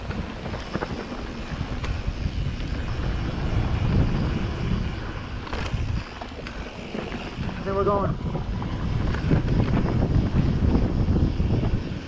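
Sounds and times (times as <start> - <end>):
bike clicking and rattling: 0.0 - 12.0
tyres rumbling over dirt: 0.0 - 12.0
wind buffeting microphone: 0.0 - 12.0.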